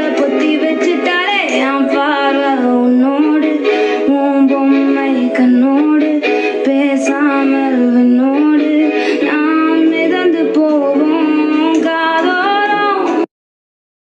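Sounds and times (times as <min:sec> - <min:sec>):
high voice singing: 0:00.0 - 0:13.3
light musical accompaniment: 0:00.0 - 0:13.3.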